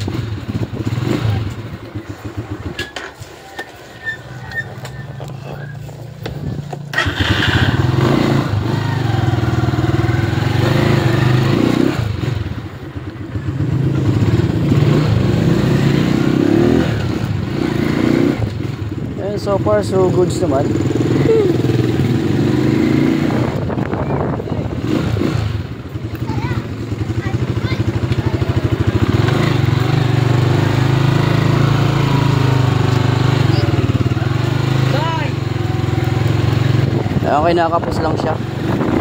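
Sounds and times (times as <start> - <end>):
motorcycle engine revving: 0.0 - 3.2, 4.0 - 39.0.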